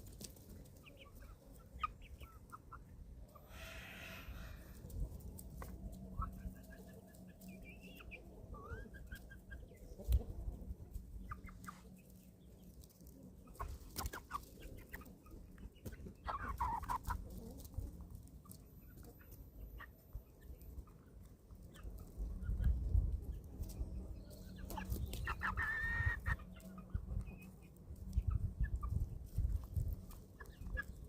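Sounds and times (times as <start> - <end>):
young chickens clucking: 0.0 - 31.0.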